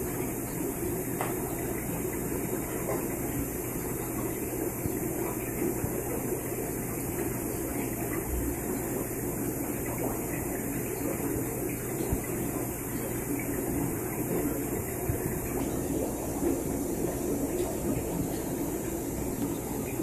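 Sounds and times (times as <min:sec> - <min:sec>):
aerator hum: 0:00.0 - 0:20.0
water bubbling: 0:01.6 - 0:20.0.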